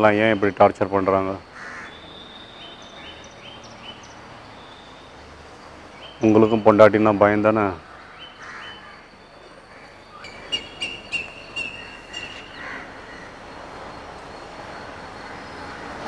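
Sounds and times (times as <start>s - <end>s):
bird chirping: 0.0s - 16.0s
faint outdoor background noise: 0.0s - 16.0s.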